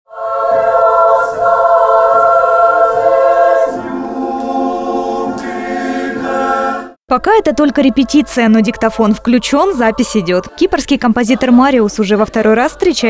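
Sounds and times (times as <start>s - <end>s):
choir singing held chords: 0.1s - 13.0s.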